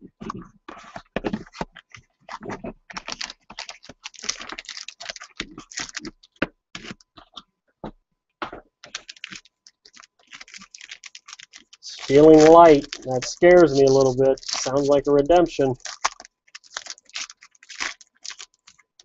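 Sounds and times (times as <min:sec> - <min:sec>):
foil pack crinkling: 0:00.7 - 0:07.4, 0:08.8 - 0:19.0.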